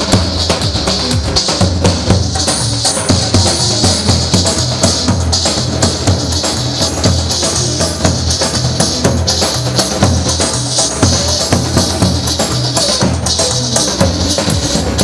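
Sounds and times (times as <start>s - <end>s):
drum struck with stick: 0.0s - 15.0s.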